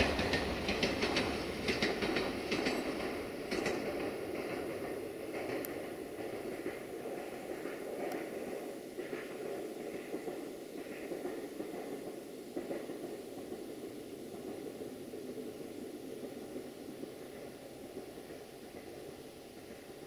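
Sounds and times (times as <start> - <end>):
faint train wheel noises: 0.0 - 20.0
train rumbling away: 0.0 - 20.0.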